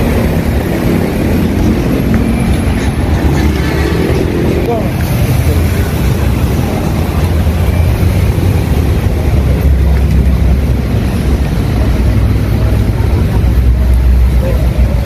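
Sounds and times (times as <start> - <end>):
street traffic rumble: 0.0 - 15.0
wind buffeting microphone: 0.0 - 15.0.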